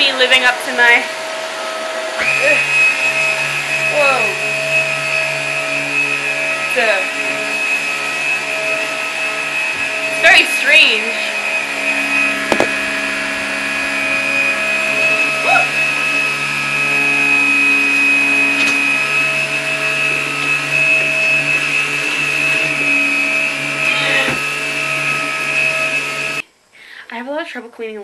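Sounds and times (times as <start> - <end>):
vacuum cleaner motor whine: 0.0 - 26.4.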